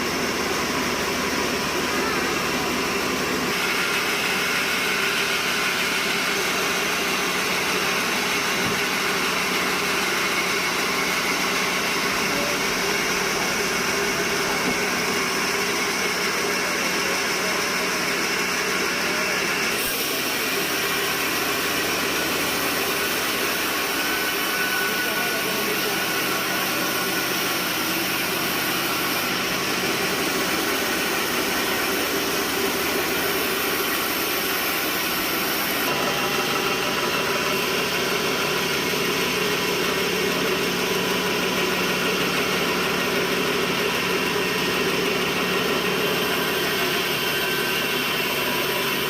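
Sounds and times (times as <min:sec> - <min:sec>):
sawmill machinery drone: 0:00.0 - 0:49.0.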